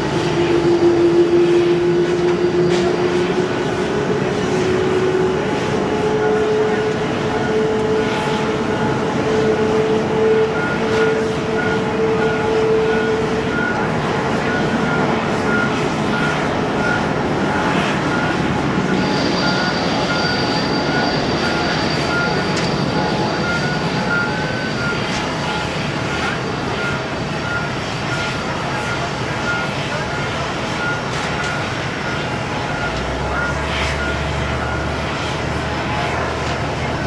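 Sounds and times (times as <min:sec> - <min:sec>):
high whine: 0:00.0 - 0:37.0
jet engines running: 0:00.0 - 0:37.0.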